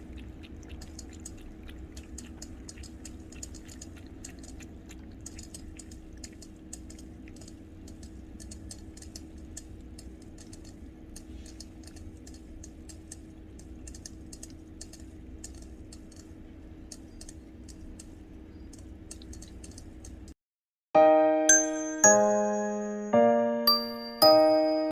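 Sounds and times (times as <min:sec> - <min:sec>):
cat lapping water: 0:00.0 - 0:20.3
steady low hum: 0:00.0 - 0:20.4.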